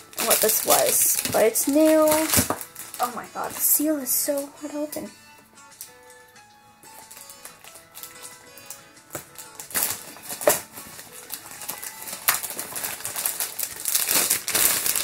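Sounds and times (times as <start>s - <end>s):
plastic wrap ripping: 0.0s - 5.0s, 6.9s - 15.0s
plastic shrink wrap crinkling: 0.0s - 5.1s, 6.9s - 15.0s.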